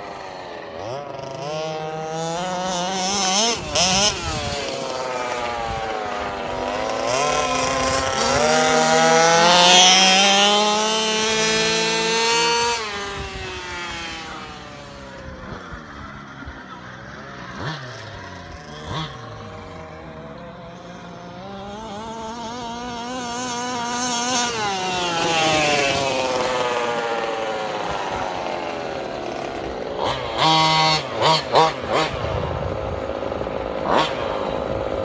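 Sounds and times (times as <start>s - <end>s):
engine throttle blips: 0.0s - 35.0s
small two-stroke engine revving: 0.0s - 35.0s.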